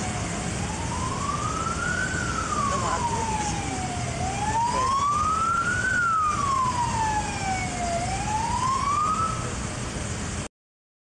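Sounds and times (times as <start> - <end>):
siren wailing: 0.0 - 9.6
passing cars rumbling: 0.0 - 10.5.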